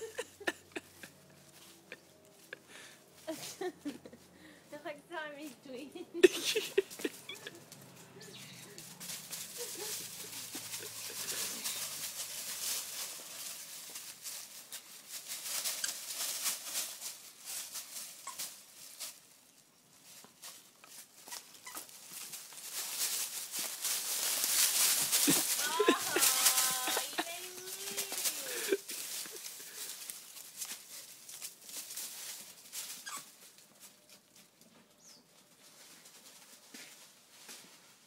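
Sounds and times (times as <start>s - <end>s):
dogs scuffling and clicking: 6.3s - 19.2s, 20.0s - 37.8s.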